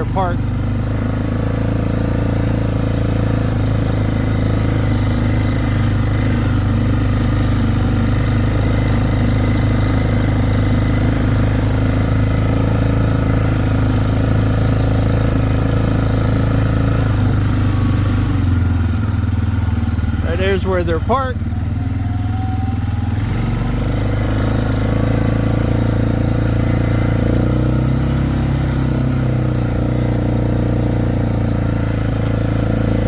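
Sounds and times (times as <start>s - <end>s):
atv engine low drone: 0.0s - 33.0s.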